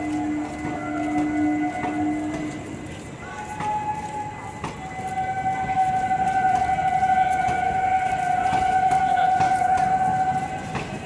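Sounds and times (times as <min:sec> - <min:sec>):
train wheels clacking over rails: 0:00.0 - 0:11.0.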